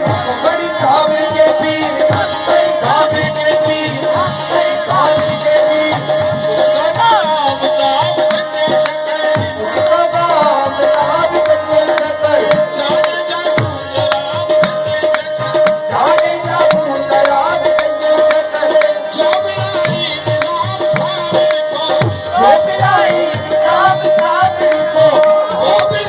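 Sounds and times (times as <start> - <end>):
drummed percussion rhythm: 0.0 - 26.0.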